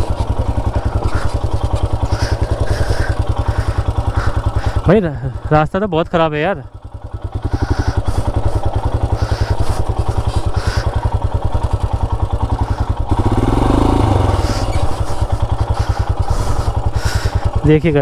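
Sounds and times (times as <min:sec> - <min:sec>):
motorcycle engine pulsing: 0:00.0 - 0:18.0.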